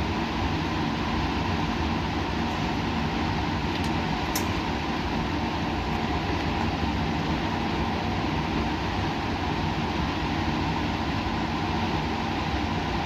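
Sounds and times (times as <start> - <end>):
laboratory machine hum: 0.0 - 13.0.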